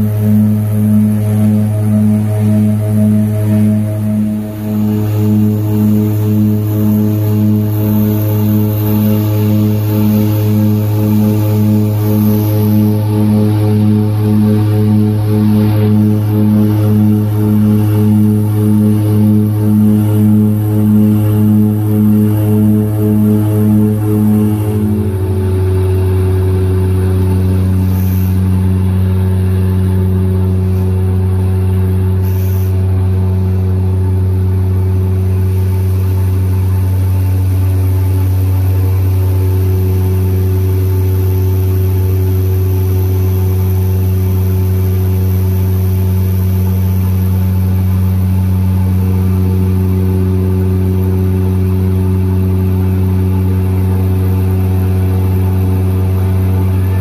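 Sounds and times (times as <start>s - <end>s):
propeller engines droning: 0.0s - 57.0s.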